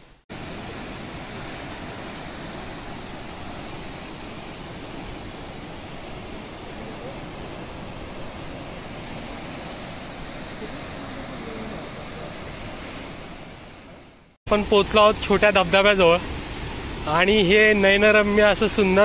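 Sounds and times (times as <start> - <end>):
waterfalls rushing: 0.3 - 19.0.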